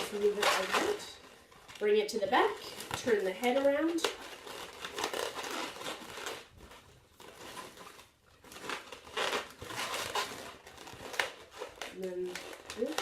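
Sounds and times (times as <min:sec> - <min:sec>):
rubber balloon rubbing and crinkling: 0:00.0 - 0:13.0.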